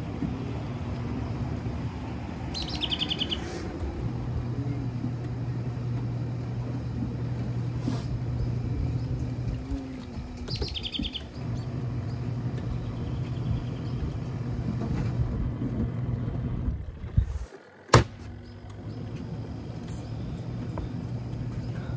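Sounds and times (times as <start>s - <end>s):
washing machine motor humming: 0.0s - 21.9s.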